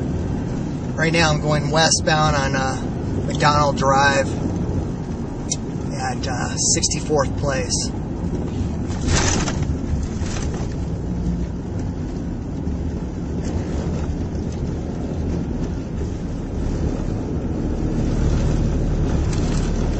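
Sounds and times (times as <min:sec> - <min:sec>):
car driving rumble: 0:00.0 - 0:19.9
wind noise: 0:00.0 - 0:19.9.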